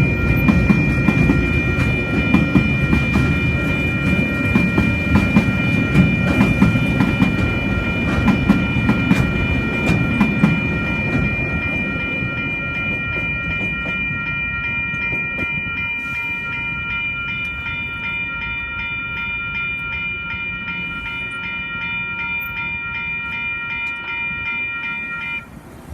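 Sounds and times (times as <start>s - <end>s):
level crossing warning bells: 0.0s - 25.9s
train wagons clattering over rails: 0.0s - 25.9s.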